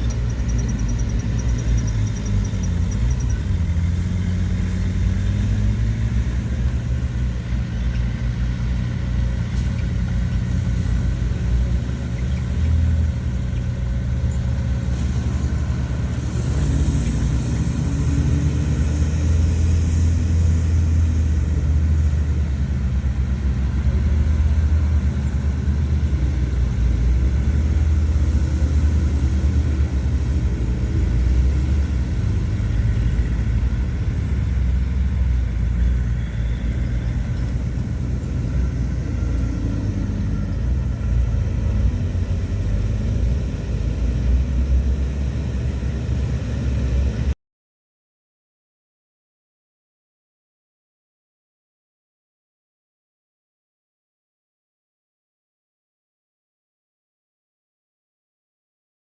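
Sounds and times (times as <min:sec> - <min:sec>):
diesel engine low rumble: 0:00.0 - 0:47.4.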